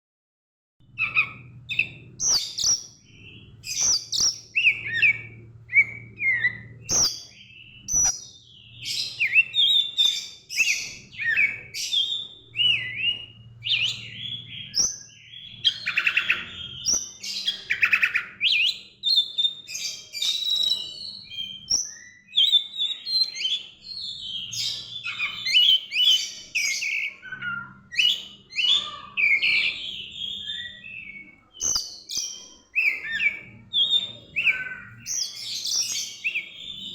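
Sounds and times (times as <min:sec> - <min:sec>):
songbird singing varied song: 0:00.8 - 0:36.9.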